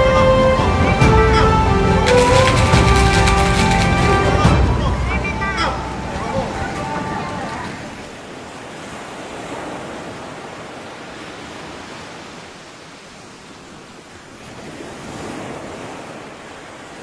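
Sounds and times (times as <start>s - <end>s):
sea surf washing onto beach: 0.5s - 17.0s.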